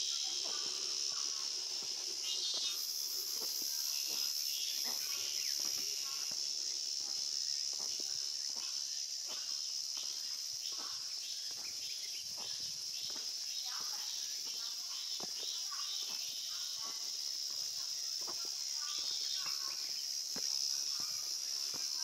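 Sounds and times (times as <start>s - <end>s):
cicadas droning: 0.0s - 22.0s
footsteps on stone steps: 0.4s - 22.0s.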